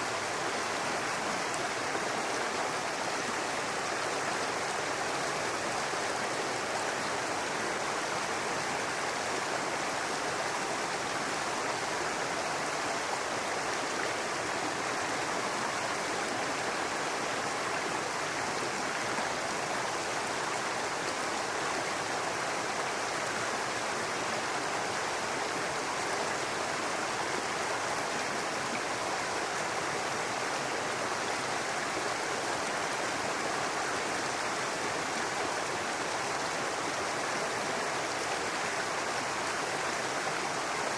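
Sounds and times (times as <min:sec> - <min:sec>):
brook babbling over rocks: 0:00.0 - 0:40.9.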